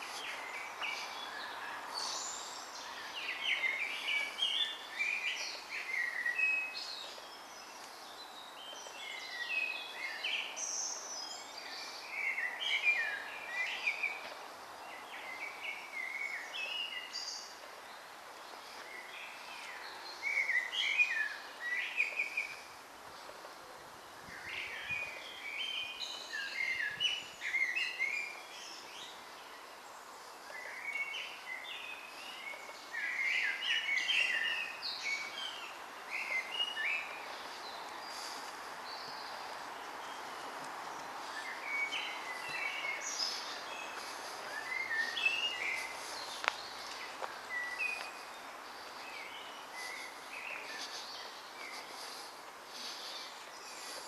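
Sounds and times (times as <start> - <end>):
faint steady background noise: 0.0 - 54.0
songbirds warbling: 0.0 - 54.0.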